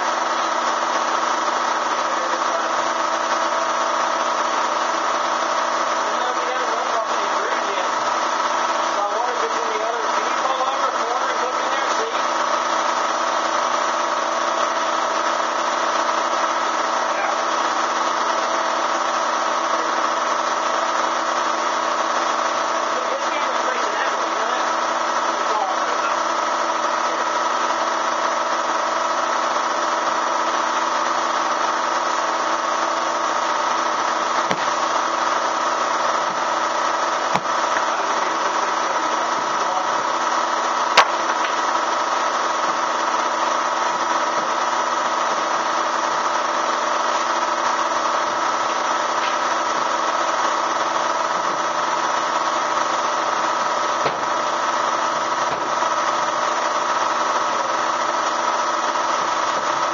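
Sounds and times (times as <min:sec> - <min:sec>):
vacuum motor running: 0:00.0 - 0:59.9.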